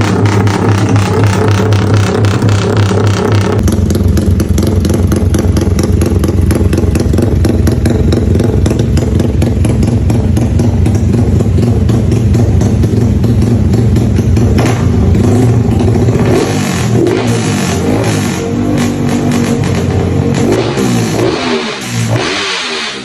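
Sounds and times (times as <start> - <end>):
motorcycle engine running steadily: 0.0 - 22.5.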